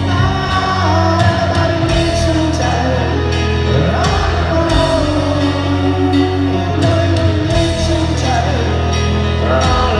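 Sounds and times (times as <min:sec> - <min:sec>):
live rock band playing: 0:00.0 - 0:09.9
person singing: 0:00.0 - 0:09.9.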